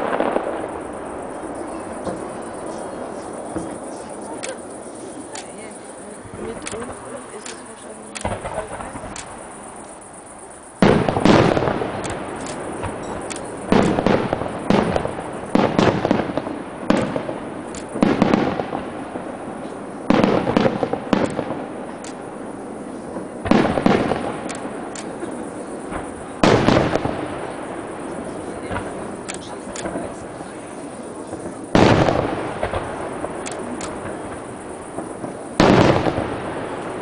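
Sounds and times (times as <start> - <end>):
firework shells bursting: 0.0 - 37.0.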